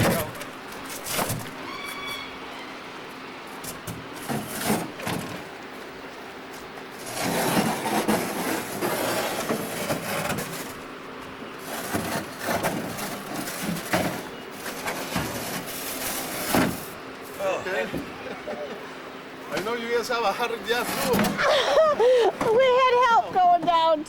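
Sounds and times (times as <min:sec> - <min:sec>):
boat hull scraping: 0:00.0 - 0:02.7, 0:03.6 - 0:05.6, 0:06.8 - 0:18.5, 0:19.5 - 0:24.0.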